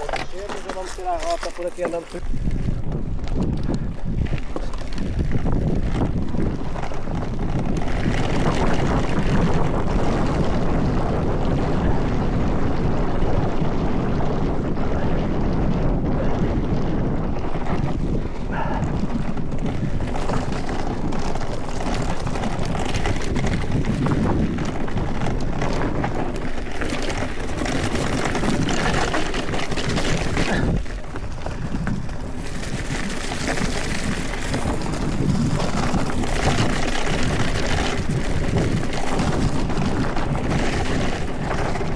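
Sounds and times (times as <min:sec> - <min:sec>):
tyres rolling over dirt and stones: 0:00.0 - 0:13.7, 0:15.6 - 0:41.9
bike rattling and knocking: 0:00.0 - 0:41.9
wind buffeting microphone: 0:00.0 - 0:41.9.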